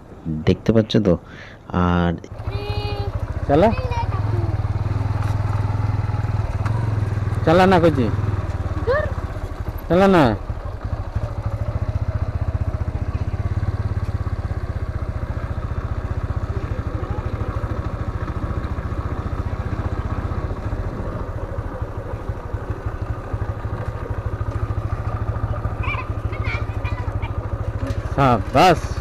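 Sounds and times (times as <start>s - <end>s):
motorbike engine running: 2.3s - 29.0s.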